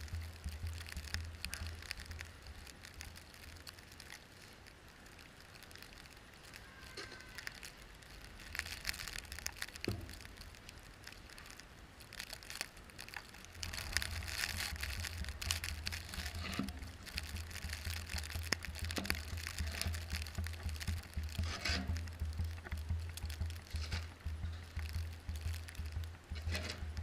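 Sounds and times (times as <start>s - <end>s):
vehicle rumble: 0.0s - 6.6s, 7.4s - 27.0s
snow crackling and crunching: 0.0s - 27.0s.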